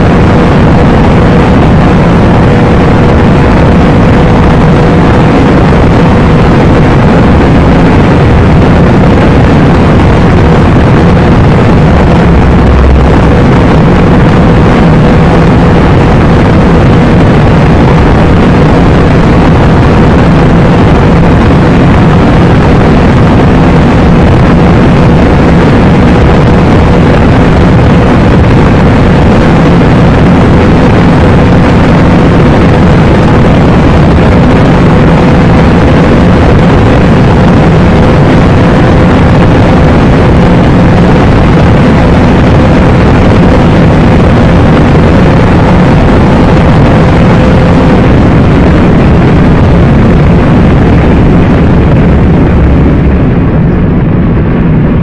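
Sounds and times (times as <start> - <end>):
car engine at high revs: 0.0 - 54.4
steady whine: 0.0 - 55.0
wind and road noise: 0.0 - 55.0.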